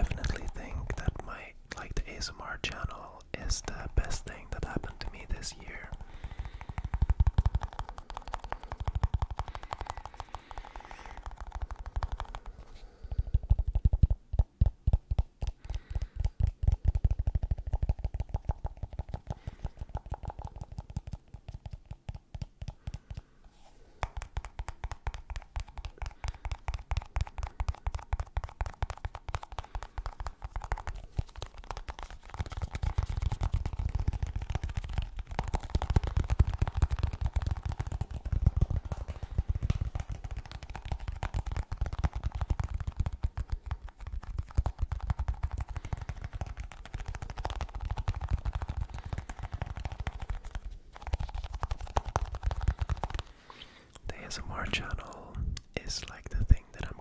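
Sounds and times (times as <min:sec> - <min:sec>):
fingertips tapping on a box: 0:05.9 - 0:23.3, 0:24.0 - 0:53.2.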